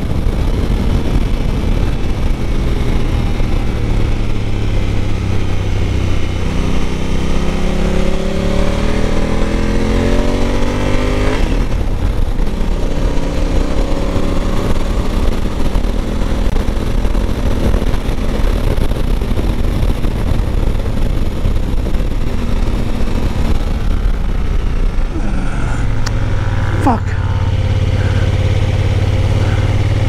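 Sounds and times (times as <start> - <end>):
motorcycle engine accelerating: 0.0 - 30.0
wind noise: 0.0 - 30.0.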